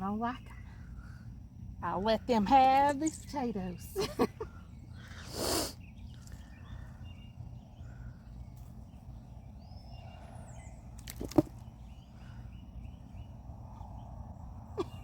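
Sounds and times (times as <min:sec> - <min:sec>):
faint bird chirps: 0:02.3 - 0:15.0.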